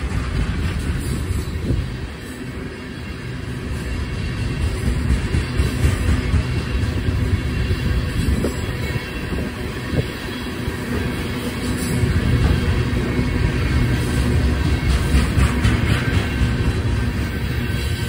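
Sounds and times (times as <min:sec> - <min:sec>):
freight train rolling by: 0:00.0 - 0:18.0.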